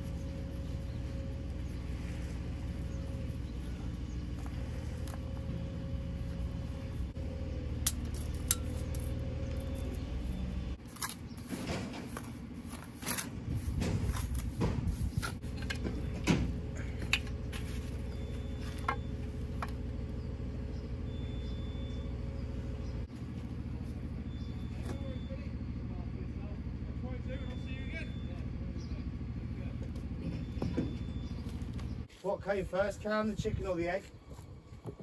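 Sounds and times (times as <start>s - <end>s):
low engine drone: 0.0s - 32.1s.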